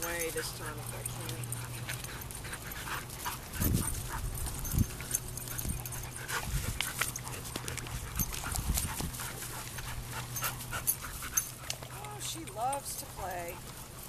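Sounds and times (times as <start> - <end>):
dog panting: 0.0 - 13.8
steady low hum: 0.0 - 14.0.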